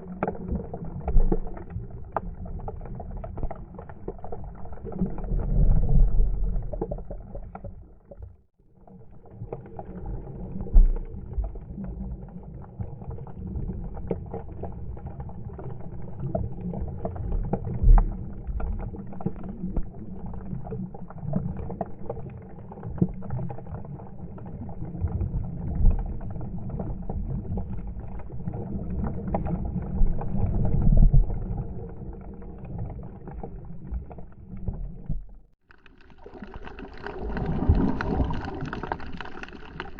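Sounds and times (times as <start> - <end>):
muffled water sloshing and splashing: 0.0 - 39.9.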